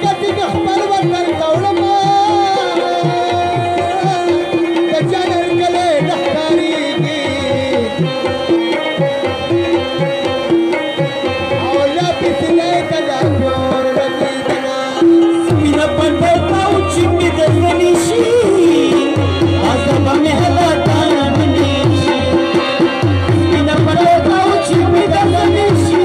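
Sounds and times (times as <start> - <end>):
tabla drumming: 0.0 - 26.0.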